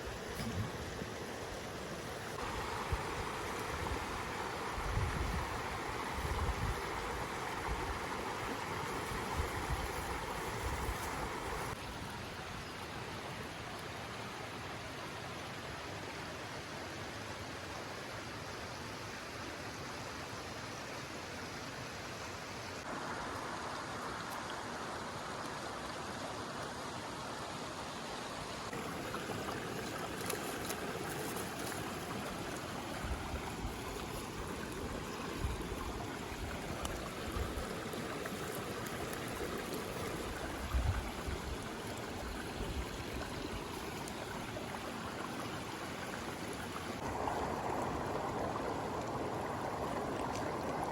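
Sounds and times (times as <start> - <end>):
water rushing: 0.0 - 15.5, 22.8 - 50.9.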